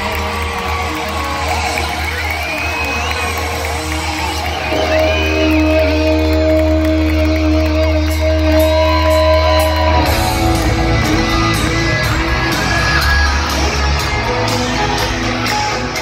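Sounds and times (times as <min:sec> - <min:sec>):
electric guitars holding chords: 0:00.0 - 0:16.0
low bass: 0:00.0 - 0:16.0.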